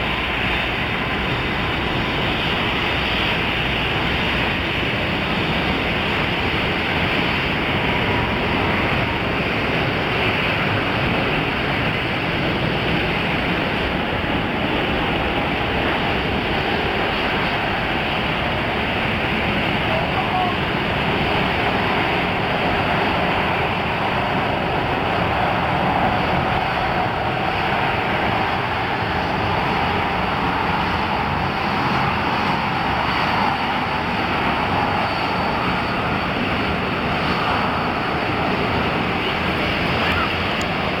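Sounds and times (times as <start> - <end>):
jet engine noise: 0.0 - 41.0.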